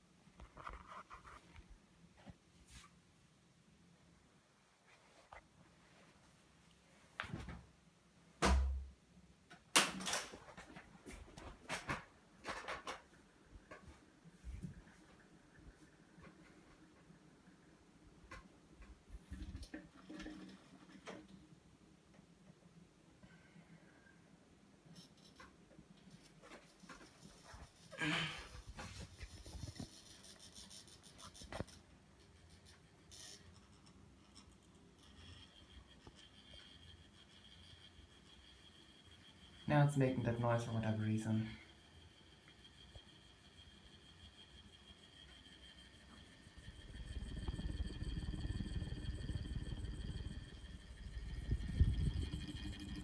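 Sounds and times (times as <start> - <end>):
ceiling fan humming: 9.7 - 53.0.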